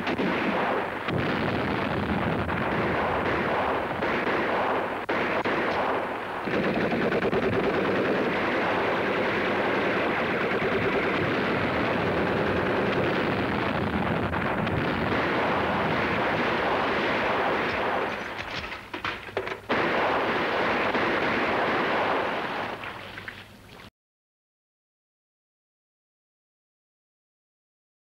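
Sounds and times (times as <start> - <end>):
heavy continuous gunfire: 0.0 - 22.8.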